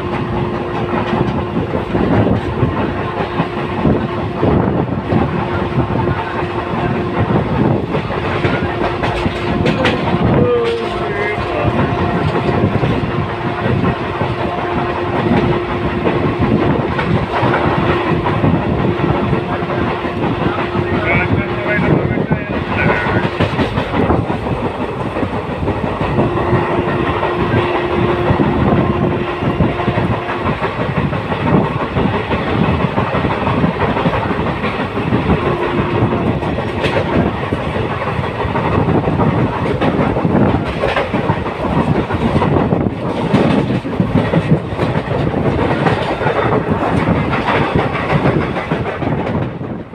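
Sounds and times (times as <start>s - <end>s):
train wheel and wind rushing: 0.0s - 49.9s
wheels clattering over rail joints: 7.2s - 21.9s, 22.5s - 28.5s, 29.2s - 49.7s.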